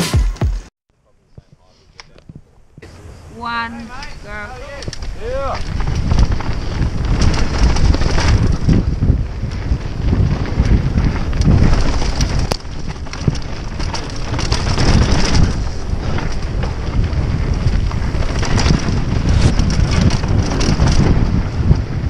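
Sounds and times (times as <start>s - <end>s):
wind buffeting microphone: 2.2s - 22.0s
tyres rumbling on dirt: 2.8s - 22.0s
bike clacking and rattling: 3.5s - 22.0s.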